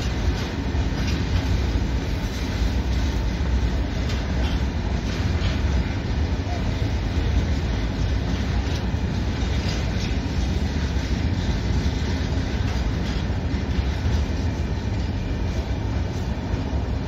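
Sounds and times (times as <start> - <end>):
train wheels rumbling on rails: 0.0 - 17.0
wheels clicking over rail joints: 0.0 - 17.0.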